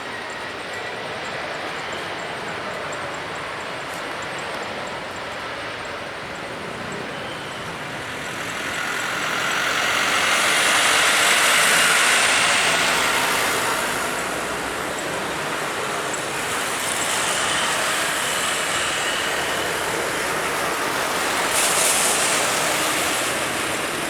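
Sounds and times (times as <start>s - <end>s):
jet airliner passing: 0.0s - 24.0s.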